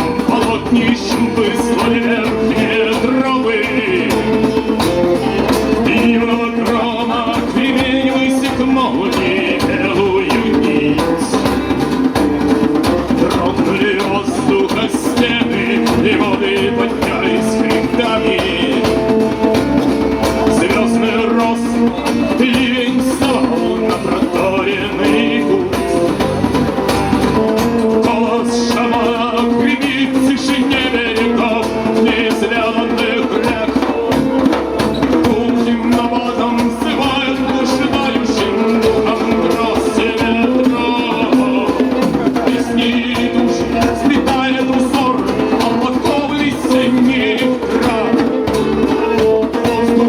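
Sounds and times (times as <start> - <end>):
band playing a song: 0.0 - 50.0
guitar: 0.0 - 50.0.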